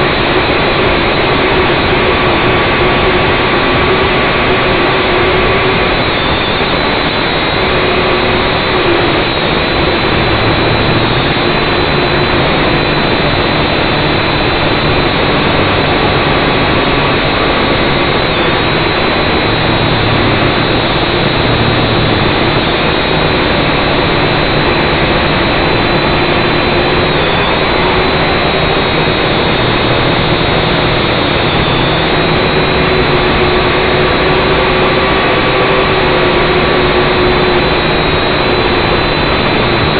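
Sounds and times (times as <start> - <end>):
drone motors and propellers whining: 0.0 - 39.9.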